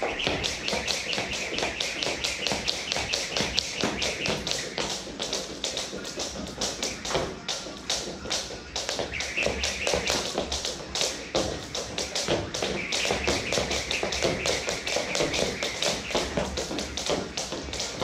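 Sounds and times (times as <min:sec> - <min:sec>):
jump rope ticking on floor: 0:00.0 - 0:18.0.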